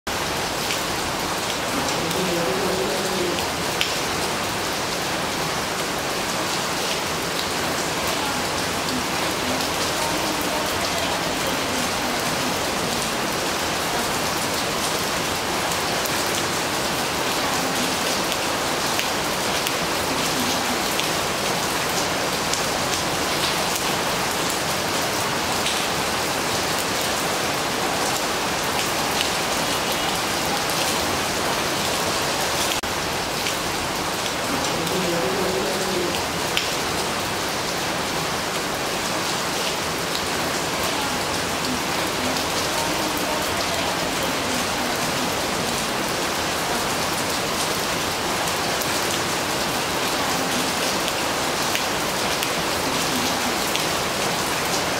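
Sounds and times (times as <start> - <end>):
gentle rain falling: 0.1 - 54.9.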